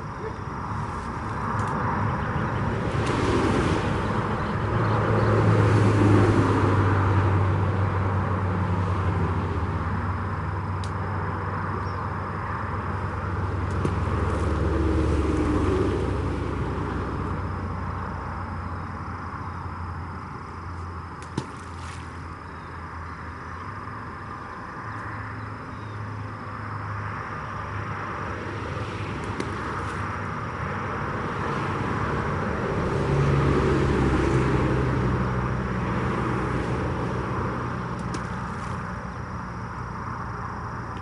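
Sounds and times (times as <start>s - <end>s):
highway vehicles passing: 0.0s - 41.0s.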